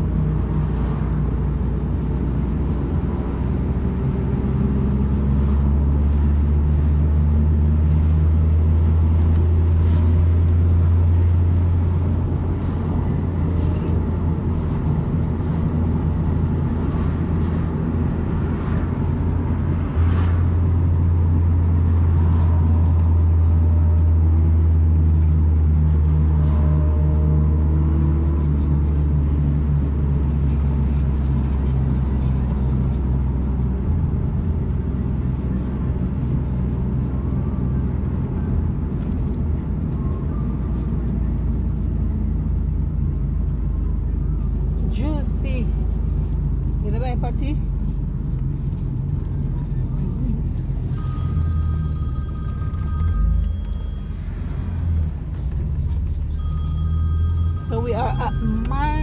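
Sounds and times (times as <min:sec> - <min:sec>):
car engine and road drone: 0:00.0 - 0:59.0.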